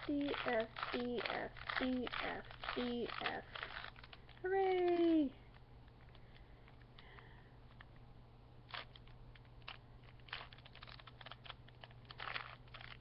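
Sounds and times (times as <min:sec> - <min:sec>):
faint low hum: 0:00.0 - 0:13.0
puzzle cube clicking: 0:00.1 - 0:06.2, 0:08.7 - 0:13.0.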